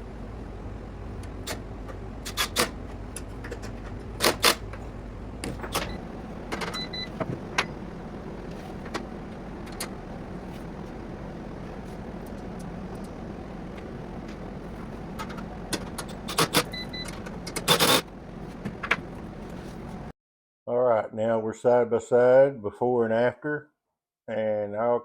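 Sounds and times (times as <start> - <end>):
cnc router motors whirring: 0.0 - 20.1.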